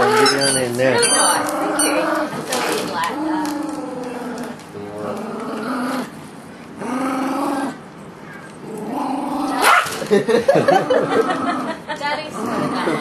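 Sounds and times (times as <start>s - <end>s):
small dog growling: 0.0s - 6.2s, 6.8s - 7.8s, 8.6s - 9.7s, 10.6s - 13.0s.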